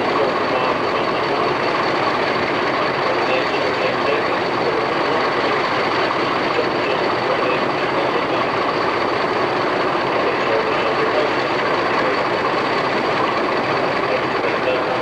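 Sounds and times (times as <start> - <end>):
diesel locomotive engines: 0.0 - 15.0
train running noise: 0.0 - 15.0.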